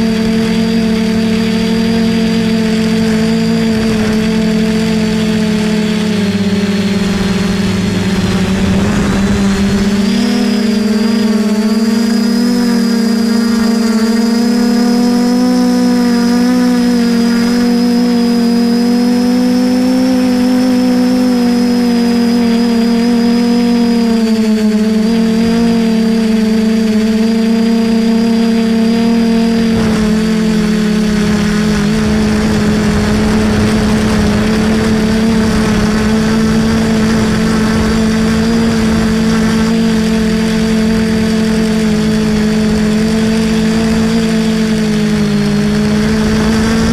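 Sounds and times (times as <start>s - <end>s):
drone motors humming: 0.0s - 46.9s
rough rushing noise: 0.2s - 15.2s, 23.4s - 46.9s.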